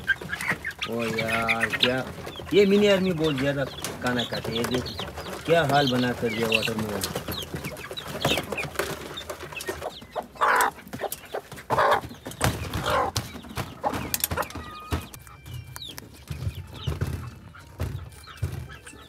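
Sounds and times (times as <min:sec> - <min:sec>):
chicks peeping: 0:00.0 - 0:19.0
hens clucking: 0:00.0 - 0:19.0.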